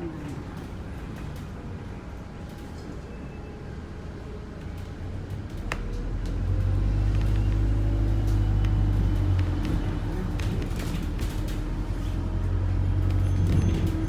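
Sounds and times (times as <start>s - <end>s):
bus engine rumbling: 0.0s - 14.0s.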